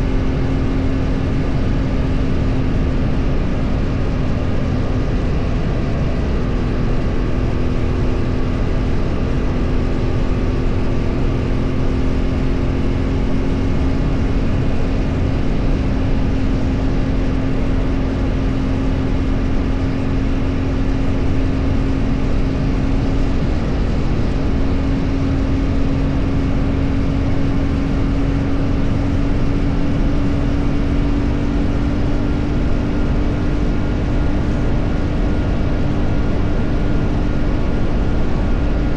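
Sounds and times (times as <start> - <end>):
vehicle engine cruising: 0.0 - 38.9
wind and road noise: 0.0 - 38.9.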